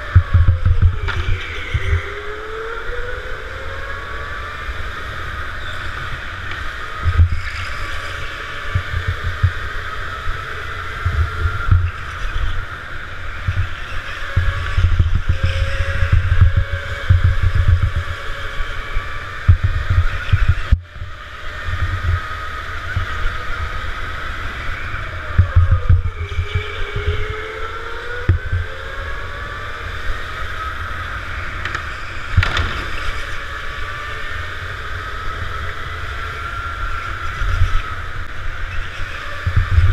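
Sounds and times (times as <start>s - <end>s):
go-kart motor whine: 0.0s - 39.9s
wind buffeting microphone: 0.0s - 39.9s.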